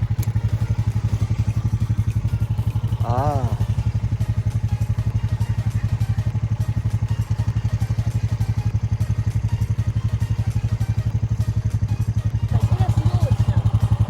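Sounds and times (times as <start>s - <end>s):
engine running with low throb: 0.0s - 14.0s.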